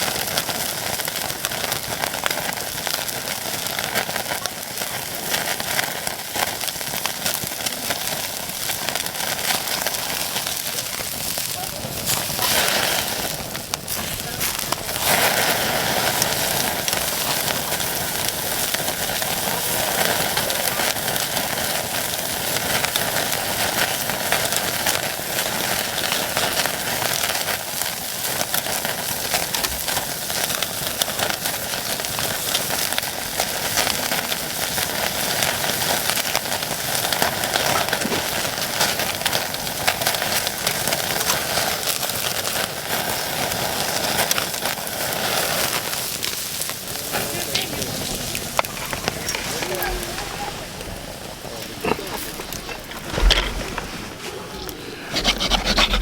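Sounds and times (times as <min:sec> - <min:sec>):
steak sizzling over a fire: 0:00.0 - 0:56.0.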